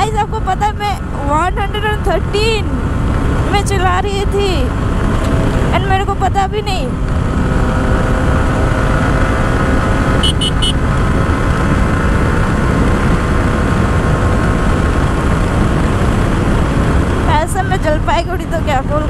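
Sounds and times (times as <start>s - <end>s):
motorcycle engine running: 0.0s - 19.0s
wind rush over microphone: 0.0s - 19.0s.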